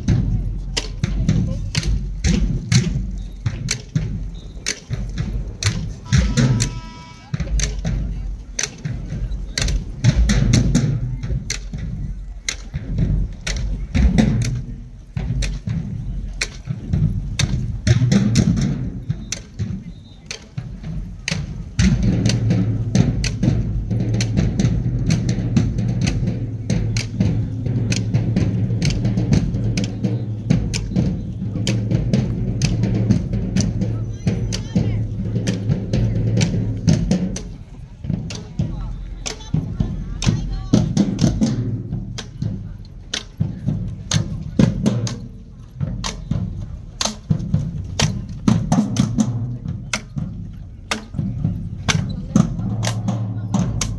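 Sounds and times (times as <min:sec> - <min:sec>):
marching drumline: 0:00.0 - 0:53.9.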